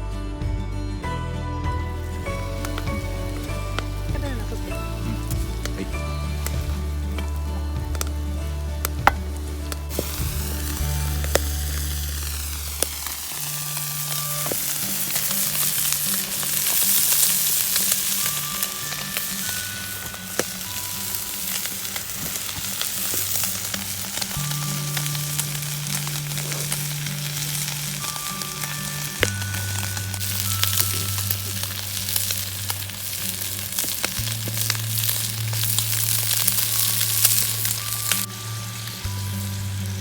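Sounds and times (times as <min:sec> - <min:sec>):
background music low notes: 0:00.0 - 0:40.0
wood fire sizzling and popping: 0:01.6 - 0:40.0.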